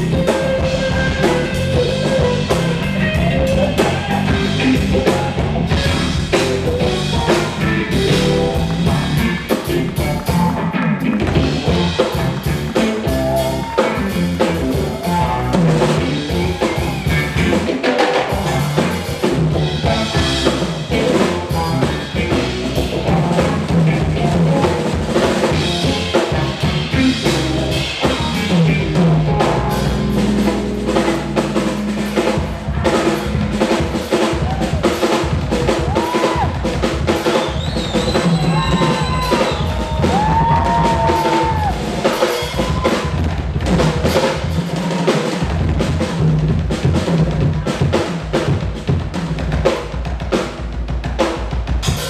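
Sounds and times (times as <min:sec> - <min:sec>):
jazz trio playing: 0:00.0 - 0:50.2
busy drums: 0:00.0 - 0:52.0.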